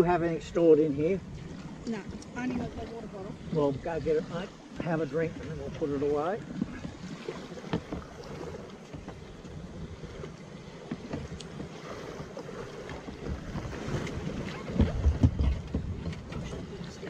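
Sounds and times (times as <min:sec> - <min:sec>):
water lapping at shore: 0:00.0 - 0:17.0
wind buffeting microphone: 0:00.0 - 0:17.0
low thumps and knocks: 0:01.3 - 0:11.8, 0:12.8 - 0:16.9.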